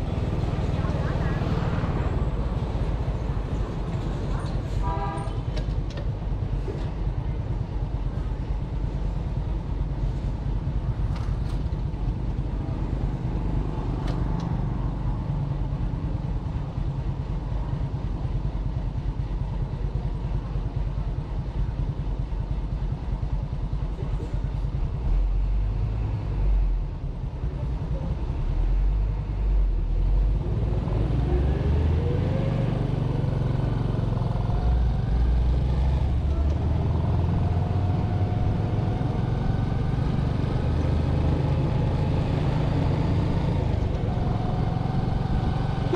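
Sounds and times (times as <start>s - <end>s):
motorcycle engine rumble: 0.0s - 31.1s, 32.0s - 45.9s.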